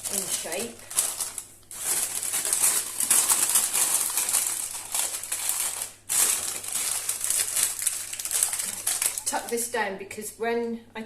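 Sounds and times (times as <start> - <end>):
baking beans clattering: 0.0 - 9.6
paper crinkling: 0.0 - 9.6.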